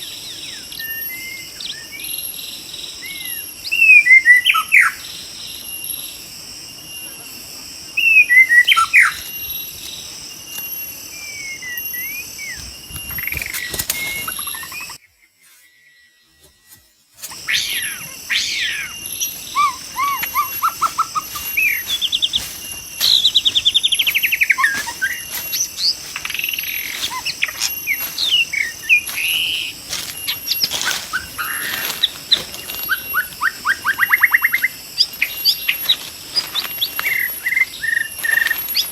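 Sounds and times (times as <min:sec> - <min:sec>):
bird whistled song and trills: 0:00.0 - 0:06.2, 0:07.9 - 0:38.9
high insect drone: 0:00.0 - 0:38.9.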